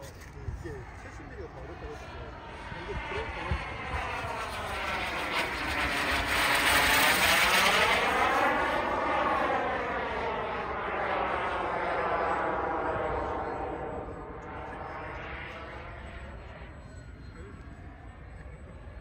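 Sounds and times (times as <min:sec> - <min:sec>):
model jet turbine flying past: 0:00.0 - 0:19.0.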